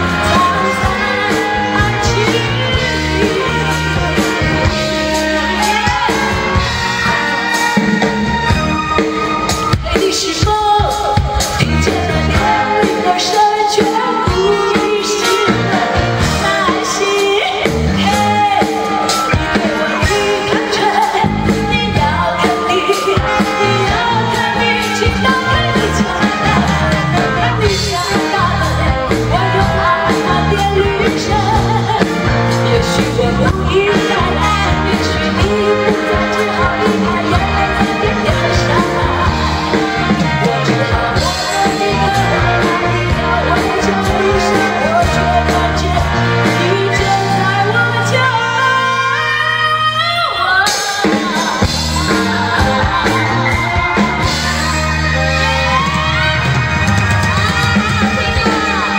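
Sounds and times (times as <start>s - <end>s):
live band with drums and bass: 0.0s - 58.9s
woman singing pop song: 0.0s - 58.9s.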